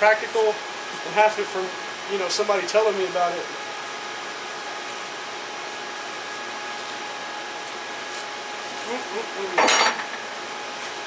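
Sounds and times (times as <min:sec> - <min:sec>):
fan whirring with high whine: 0:00.0 - 0:11.0.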